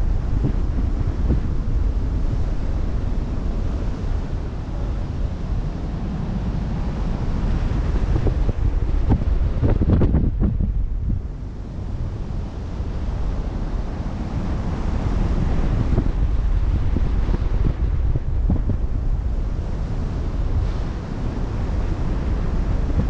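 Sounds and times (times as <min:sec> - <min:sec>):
sea waves rushing: 0:00.0 - 0:23.0
wind buffeting microphone: 0:00.0 - 0:23.0.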